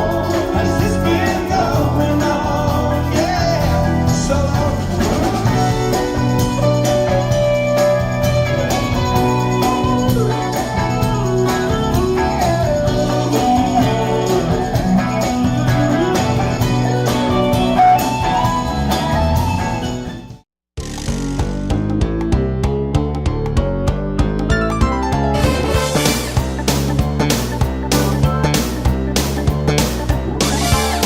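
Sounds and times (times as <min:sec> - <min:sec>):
band playing guitar bass and drums: 0:00.0 - 0:31.0.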